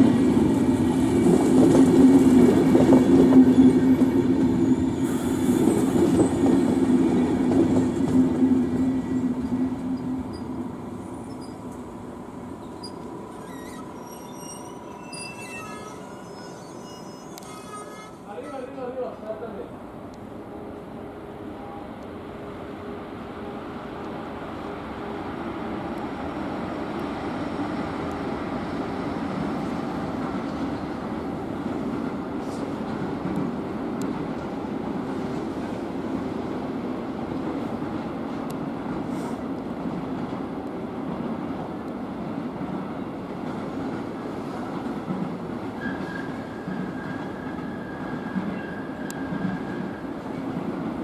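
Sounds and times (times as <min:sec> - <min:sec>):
train wheels rumbling on rails: 0:00.0 - 0:17.6, 0:23.6 - 0:51.0.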